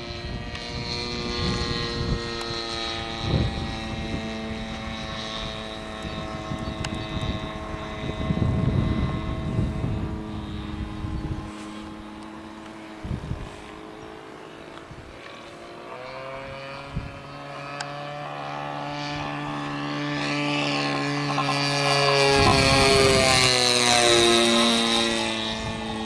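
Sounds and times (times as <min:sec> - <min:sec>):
model plane engine drone: 0:00.0 - 0:26.0
wind buffeting microphone: 0:00.0 - 0:26.0.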